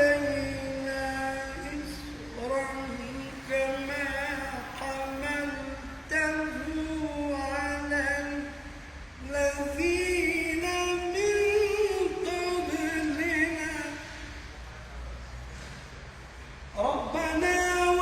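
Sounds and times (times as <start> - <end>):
man reciting melodically: 0.0 - 14.5, 16.8 - 18.0.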